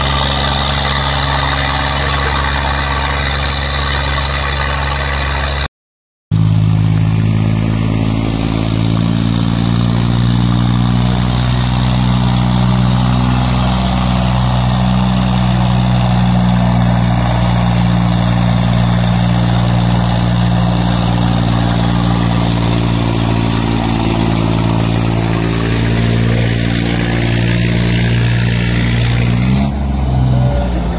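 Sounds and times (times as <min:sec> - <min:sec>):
tractor diesel engine under load: 0:00.0 - 0:05.7, 0:06.3 - 0:30.9.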